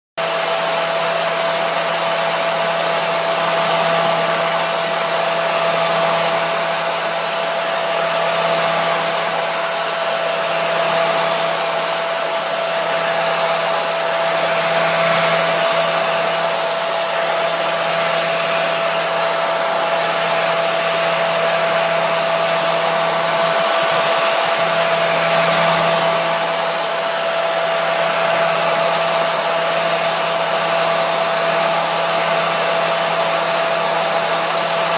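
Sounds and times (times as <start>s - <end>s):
hair dryer running: 0.2s - 34.9s.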